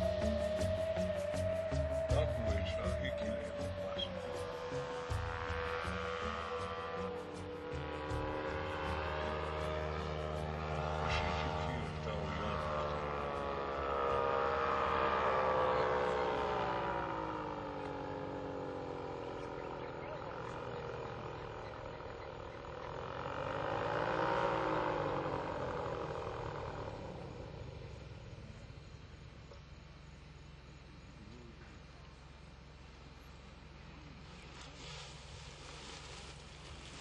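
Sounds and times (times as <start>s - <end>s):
paramotor engine droning overhead: 0.0s - 37.0s.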